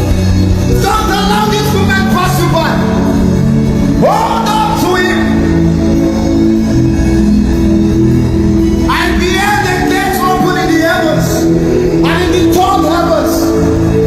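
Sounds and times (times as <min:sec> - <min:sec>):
worship music held chords: 0:00.0 - 0:14.0.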